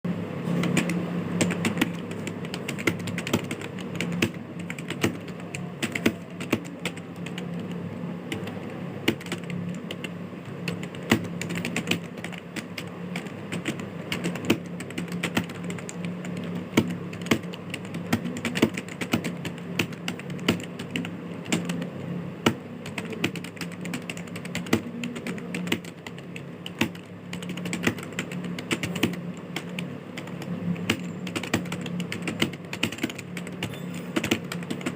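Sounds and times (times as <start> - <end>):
computer keyboard typing: 0.5 - 34.9.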